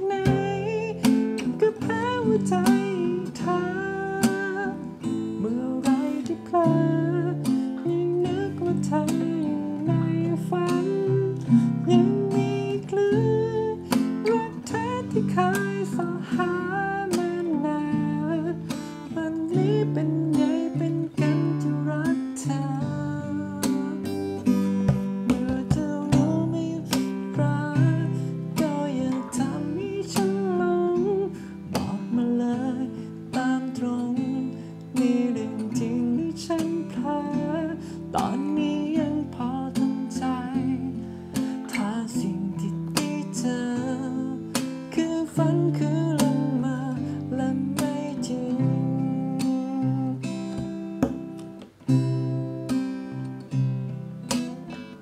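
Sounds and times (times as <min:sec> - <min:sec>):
man singing: 0:00.0 - 0:51.6
acoustic guitar strumming: 0:00.0 - 0:55.0.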